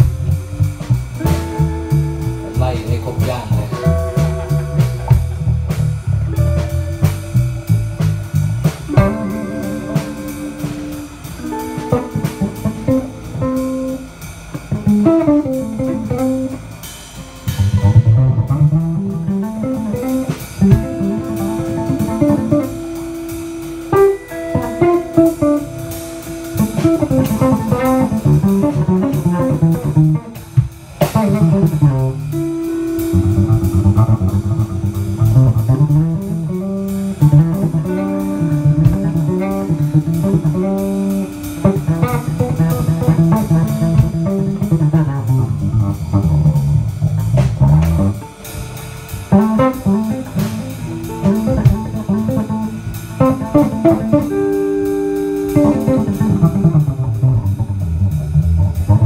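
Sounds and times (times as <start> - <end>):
drum kit: 0.0 - 59.0
electric bass: 0.0 - 59.0
electric guitar held notes: 0.0 - 59.0.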